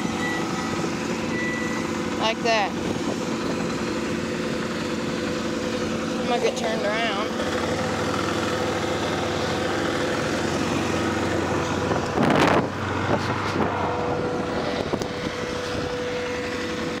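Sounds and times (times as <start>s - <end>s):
quad engine running: 0.0s - 17.0s.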